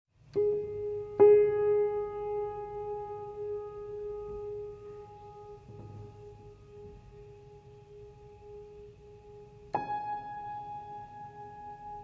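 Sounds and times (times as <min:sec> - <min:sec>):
piano note ringing: 0:00.3 - 0:12.0.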